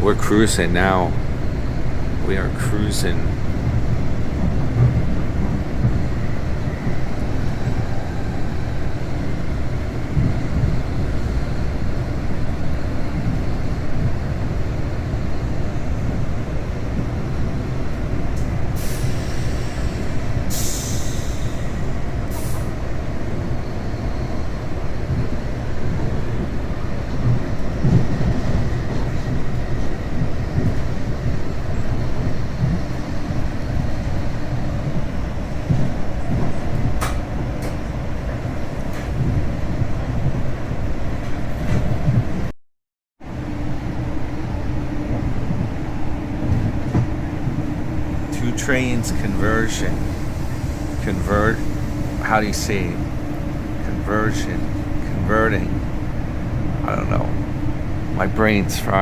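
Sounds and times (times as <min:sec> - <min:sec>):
train wheels rumbling on track: 0:00.0 - 0:42.5, 0:43.2 - 0:59.0.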